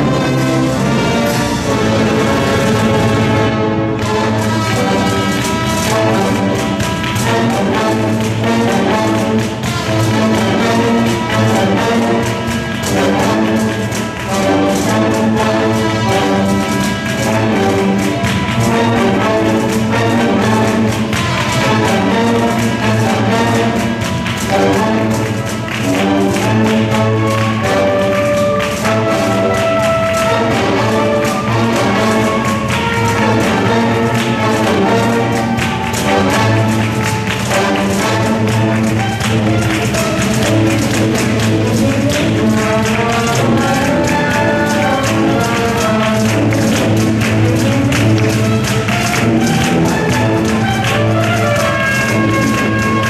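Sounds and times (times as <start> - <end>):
brass ensemble playing chords: 0.0 - 53.0
held melodic notes: 0.0 - 53.0
steady percussion beat: 0.0 - 53.0.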